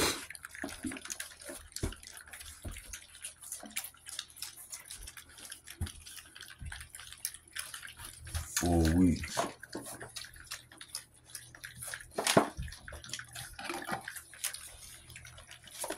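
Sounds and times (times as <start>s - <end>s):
puppies lapping wet food: 0.0s - 15.9s.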